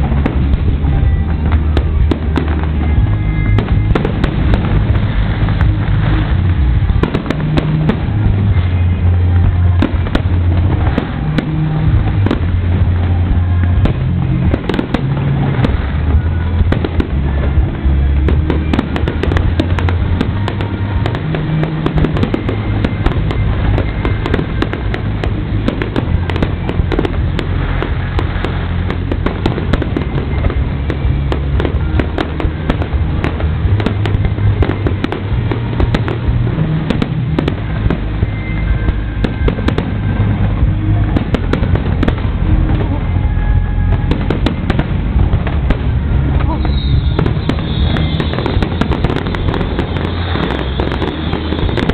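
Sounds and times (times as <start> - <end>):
firework booms: 0.0 - 51.9
firework crackling bursts: 0.0 - 51.9
music playing: 0.0 - 51.9.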